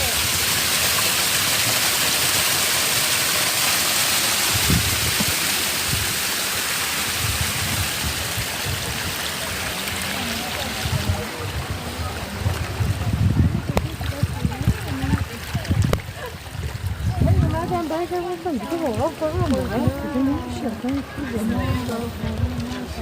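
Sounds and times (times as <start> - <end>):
water rushing in a stream: 0.0 - 23.0.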